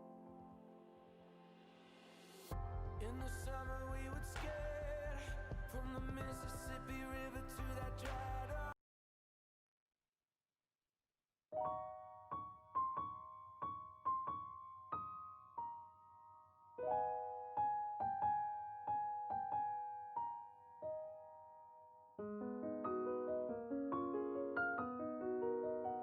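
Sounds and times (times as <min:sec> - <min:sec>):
gentle piano melody: 0:00.0 - 0:01.8, 0:02.5 - 0:08.8, 0:11.6 - 0:26.0.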